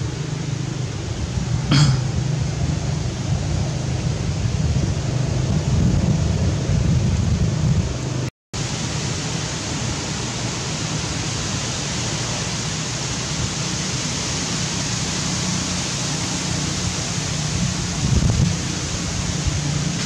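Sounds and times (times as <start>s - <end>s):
wind rushing on microphone: 0.0s - 20.0s.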